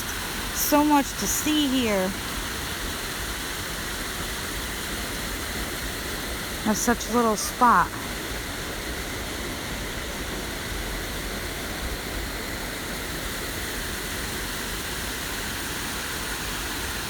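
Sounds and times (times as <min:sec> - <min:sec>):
waterfall rushing water: 0:00.0 - 0:17.0.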